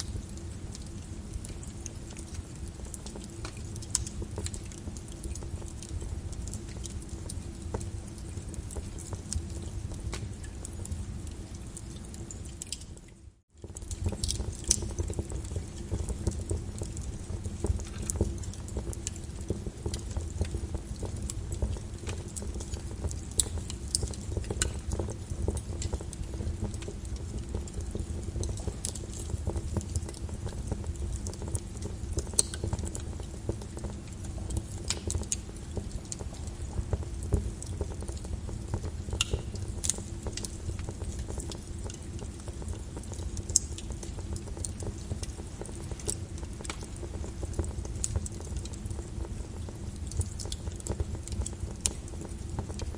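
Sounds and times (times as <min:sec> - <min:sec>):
lava crackling and snapping: 0:00.0 - 0:52.9.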